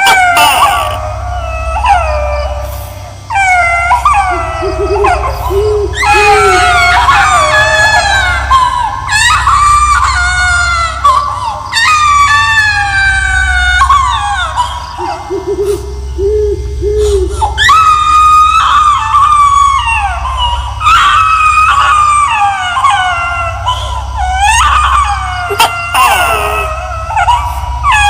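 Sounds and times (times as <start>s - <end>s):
ghostly baby crying: 0.0s - 28.0s
low drone: 0.0s - 28.0s.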